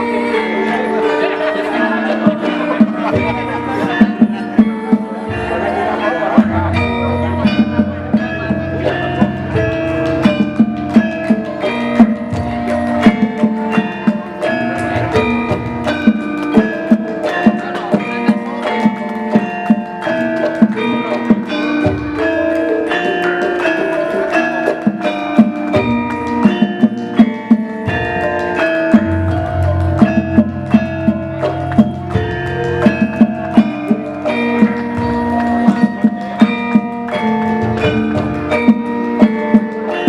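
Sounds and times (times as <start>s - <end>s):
gamelan ensemble playing: 0.0s - 40.0s.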